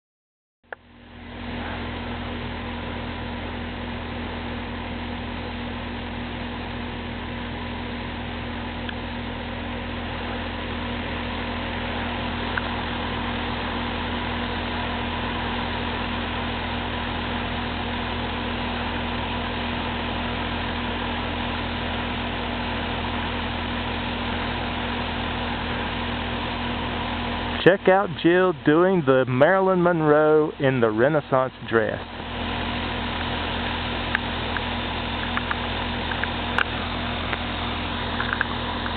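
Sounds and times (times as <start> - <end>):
ventilation fan humming: 0.7 - 38.9.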